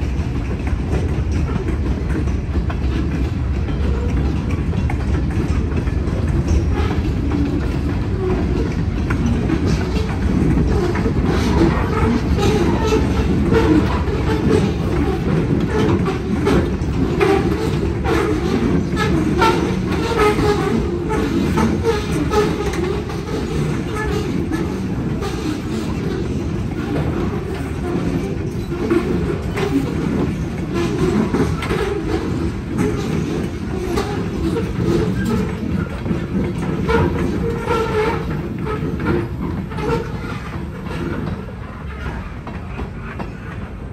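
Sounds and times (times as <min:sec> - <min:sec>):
freight cars rolling on rails: 0:00.0 - 0:43.9
wheel squeaks: 0:00.6 - 0:43.5.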